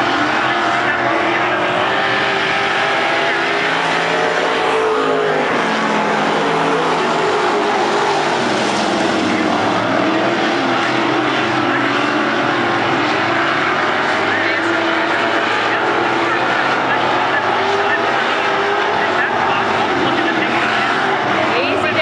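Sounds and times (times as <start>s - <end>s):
race car engines racing: 0.0s - 22.0s.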